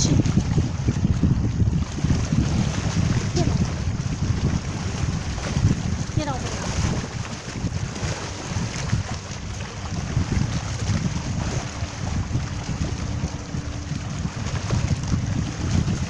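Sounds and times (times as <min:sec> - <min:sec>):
rough sea surf: 0:00.0 - 0:16.0
wind buffeting microphone: 0:00.0 - 0:16.0.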